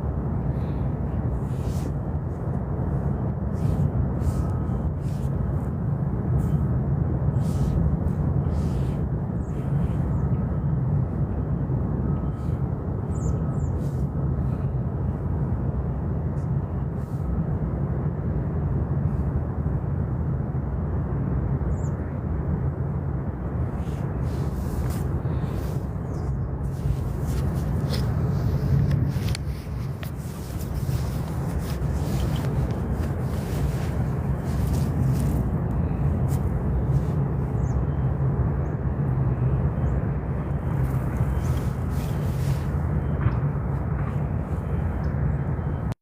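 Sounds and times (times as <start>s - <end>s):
low rumble: 0.0s - 45.9s.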